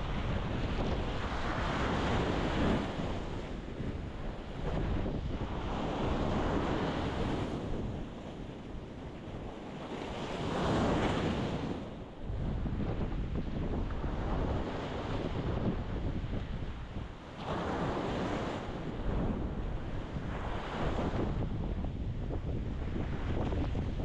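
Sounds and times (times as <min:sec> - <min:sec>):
wind on microphone: 0:00.0 - 0:24.0.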